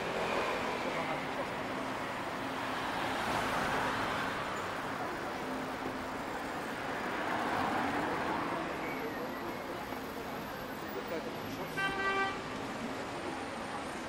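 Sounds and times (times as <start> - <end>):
hum of city traffic: 0.0 - 14.0
vehicles passing close by: 0.0 - 14.0.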